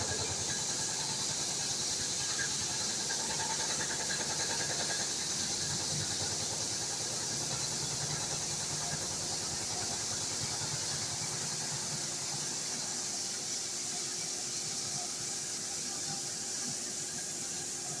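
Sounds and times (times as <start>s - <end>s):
machine hiss: 0.0s - 18.0s.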